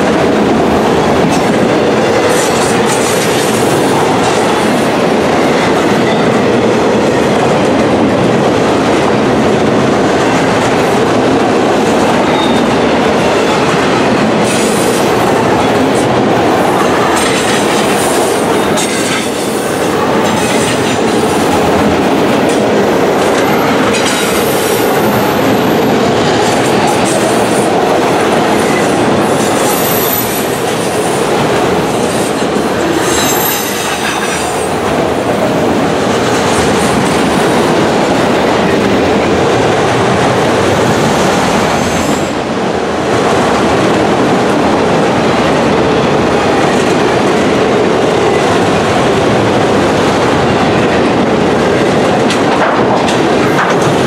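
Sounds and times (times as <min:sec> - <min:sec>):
clickety-clack over rail joints: 0:00.0 - 0:54.0
train wheels rumbling on rail: 0:00.0 - 0:54.0.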